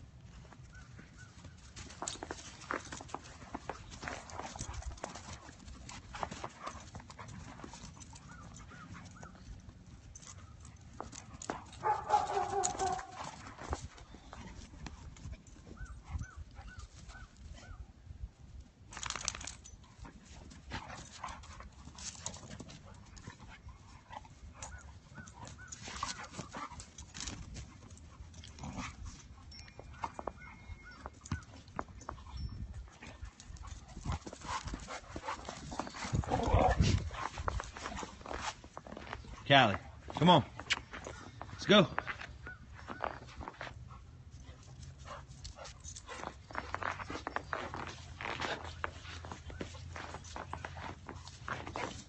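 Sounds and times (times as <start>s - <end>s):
dogs scuffling in snow: 0.2s - 17.5s, 19.0s - 52.0s.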